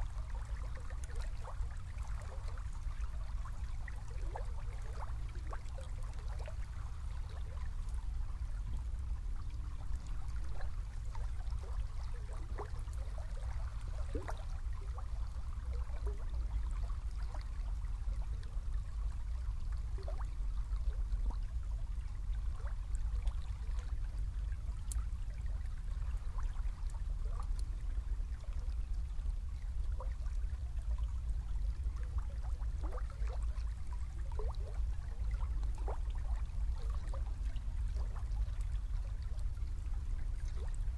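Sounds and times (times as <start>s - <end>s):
low steady rumble: 0.0s - 40.9s
water trickling and gurgling: 0.0s - 40.9s.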